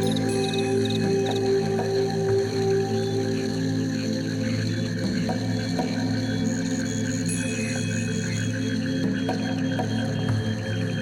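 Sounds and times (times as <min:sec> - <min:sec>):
slow meditation music: 0:00.0 - 0:11.0.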